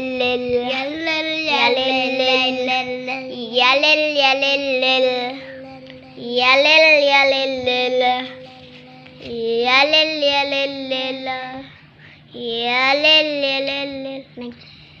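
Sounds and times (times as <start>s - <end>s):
child singing: 0.0s - 11.7s, 12.3s - 14.6s.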